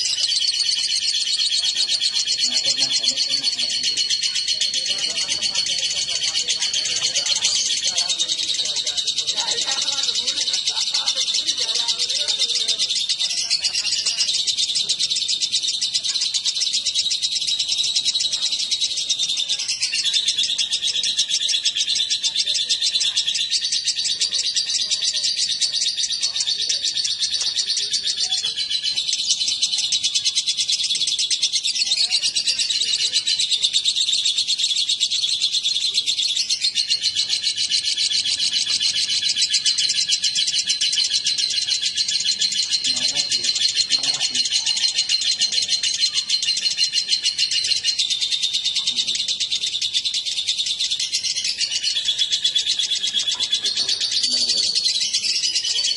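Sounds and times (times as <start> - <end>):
lovebird chattering trill: 0.0 - 55.9.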